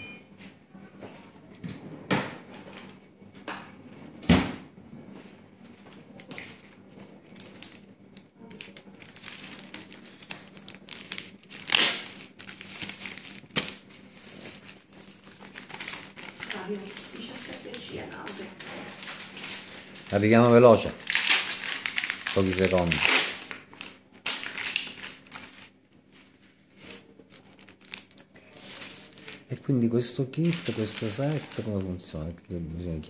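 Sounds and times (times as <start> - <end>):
plastic wrapping crinkling: 5.7 - 32.2.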